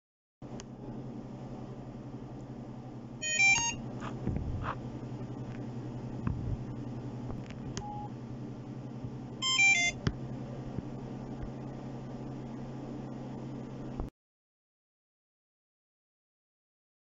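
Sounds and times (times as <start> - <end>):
low steady hum: 0.4 - 14.1.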